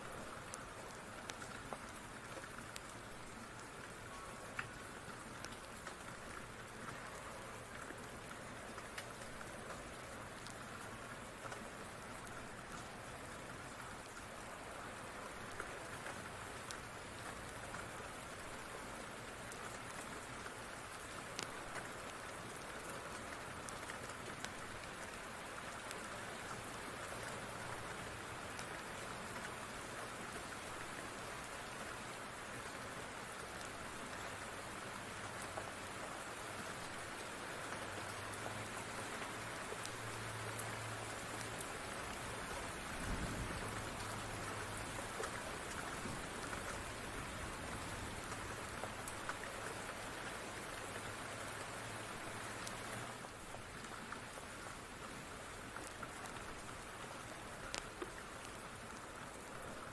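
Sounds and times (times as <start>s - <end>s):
steady rain falling: 0.0s - 59.9s
light ticks: 0.1s - 14.3s, 15.5s - 30.0s, 32.7s - 51.7s, 55.8s - 59.9s.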